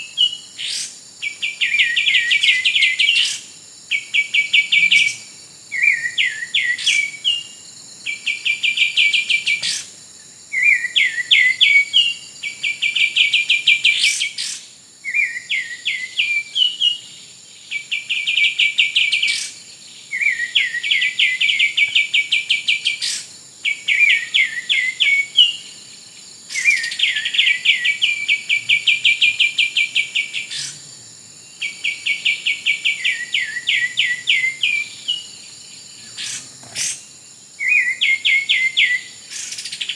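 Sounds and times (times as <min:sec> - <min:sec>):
songbird singing chattering phrases: 0:00.0 - 0:25.8, 0:26.4 - 0:39.9.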